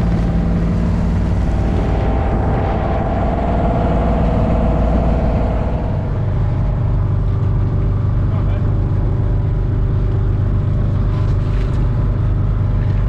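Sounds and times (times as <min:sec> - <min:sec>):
boat engine running: 0:00.0 - 0:13.0
water rushing along hull: 0:00.0 - 0:13.0.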